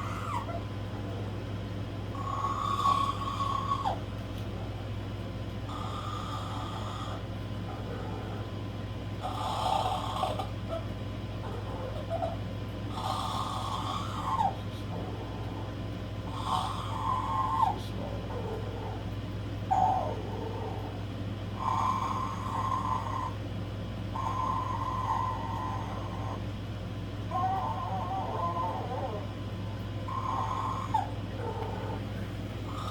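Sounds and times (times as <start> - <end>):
parrot imitating snoring: 0.0 - 1.4, 2.1 - 4.0, 5.7 - 8.6, 9.2 - 19.1, 19.7 - 21.0, 21.6 - 23.4, 24.1 - 26.5, 27.3 - 32.9.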